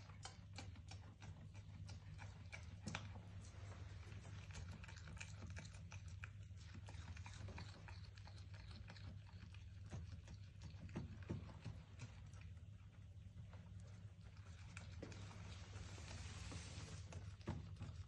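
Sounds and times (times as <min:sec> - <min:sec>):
goat chewing grass: 0:00.0 - 0:18.0
low steady hum: 0:00.0 - 0:18.0.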